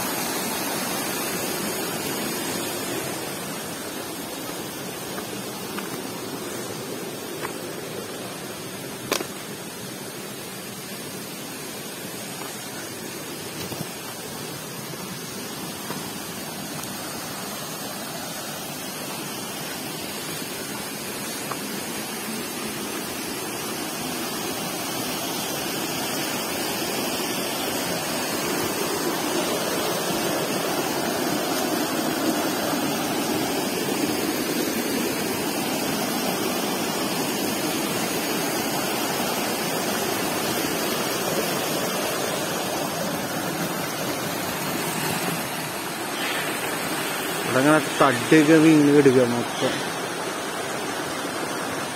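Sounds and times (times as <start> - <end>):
waterfall rushing water: 0.0 - 51.9.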